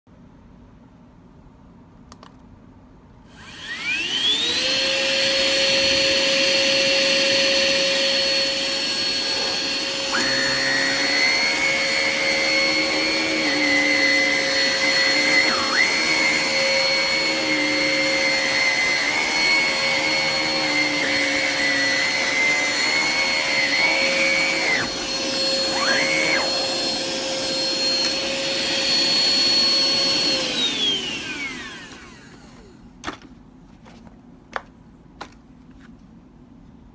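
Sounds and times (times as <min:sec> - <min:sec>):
vacuum motor whining: 0:03.3 - 0:32.8.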